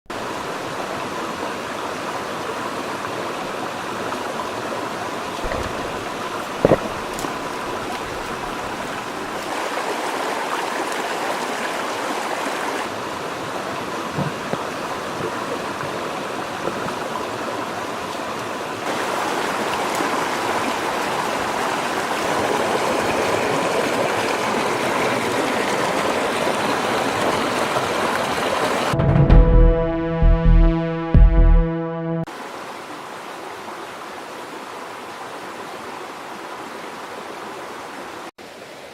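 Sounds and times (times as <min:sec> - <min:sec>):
river water flowing: 0:00.1 - 0:29.0, 0:32.3 - 0:38.9.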